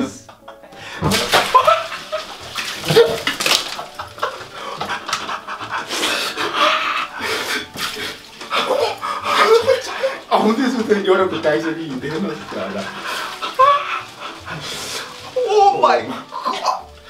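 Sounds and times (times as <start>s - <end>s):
men panting and gasping: 0.5s - 10.3s, 11.2s - 15.4s
water sloshing in tub: 0.9s - 17.0s.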